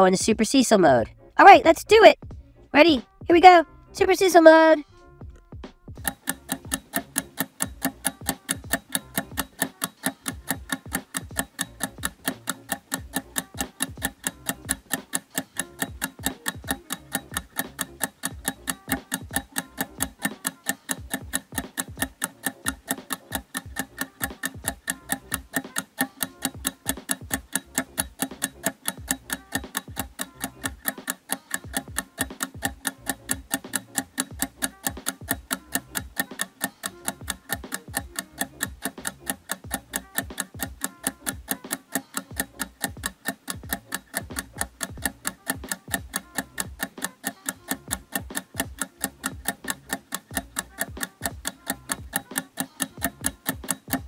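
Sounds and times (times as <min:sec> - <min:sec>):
fast clock-like ticking: 0:00.0 - 0:54.0.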